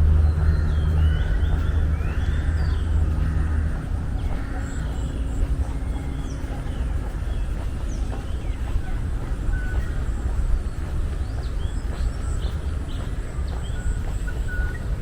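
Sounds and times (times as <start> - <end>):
birds chirping and calling: 0.0 - 15.0
low rumble of vehicle traffic: 0.0 - 15.0.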